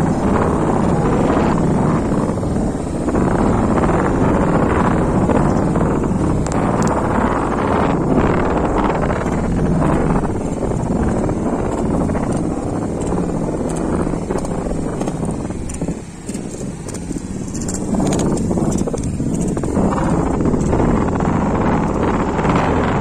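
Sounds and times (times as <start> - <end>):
sea surf washing: 0.0 - 23.0
wind buffeting microphone: 0.0 - 23.0.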